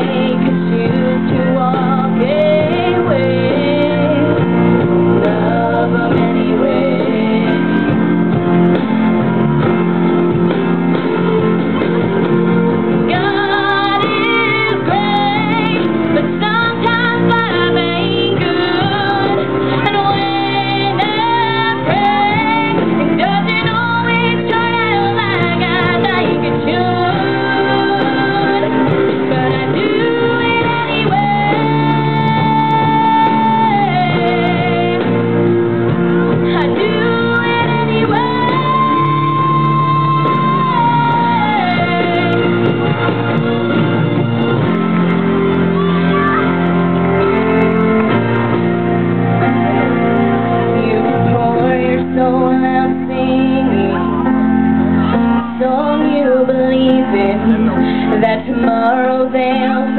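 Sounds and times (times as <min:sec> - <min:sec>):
woman singing a ballad: 0:00.0 - 0:08.8, 0:12.4 - 0:43.0, 0:49.9 - 0:59.9
instrumental accompaniment: 0:00.0 - 0:59.9.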